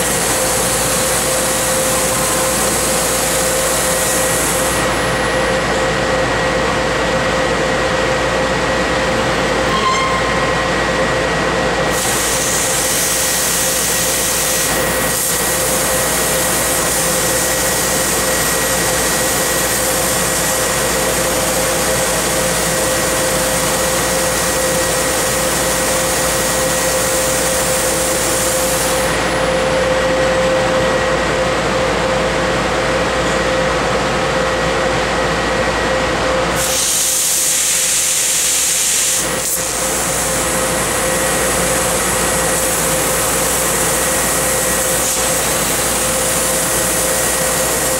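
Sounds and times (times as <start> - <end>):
laser cutter hissing: 0.0 - 7.5, 8.8 - 30.8, 36.5 - 47.9.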